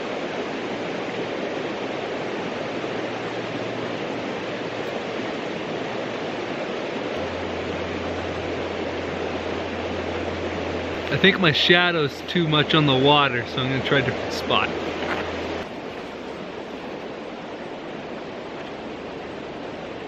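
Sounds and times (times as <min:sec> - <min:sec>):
creek water rushing: 0:00.0 - 0:20.0
low steady hum: 0:00.0 - 0:20.0.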